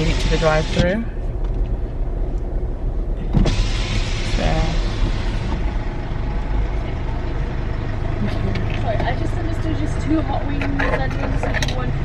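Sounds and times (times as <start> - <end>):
car engine idling: 0.0 - 12.0
rush of outside noise: 0.0 - 12.0.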